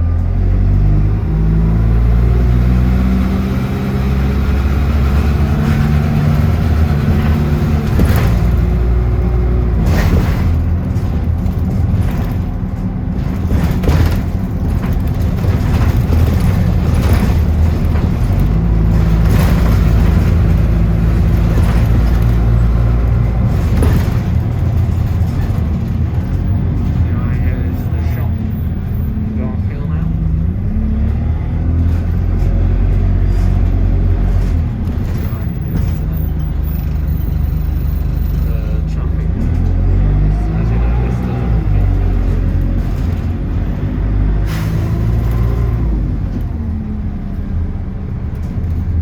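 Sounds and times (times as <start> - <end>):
bus engine running: 0.0 - 49.0
road rumble: 0.0 - 49.0
knocks and rattles: 3.8 - 30.4, 31.0 - 49.0.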